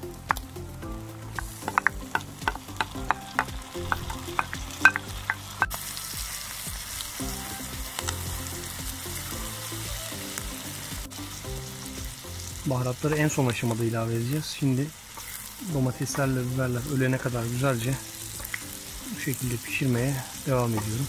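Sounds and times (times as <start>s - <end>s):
meat sizzling on a hot pan: 0.0s - 21.0s.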